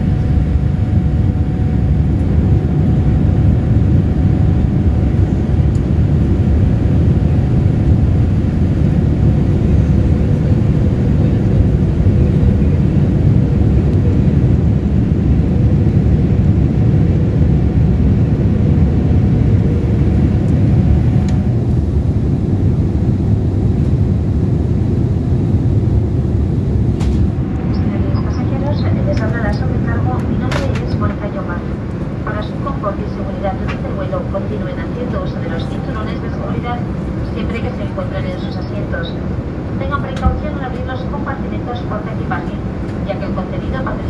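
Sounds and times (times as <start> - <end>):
airplane cabin rumble: 0.0 - 44.0
faint steady hum: 0.0 - 44.0.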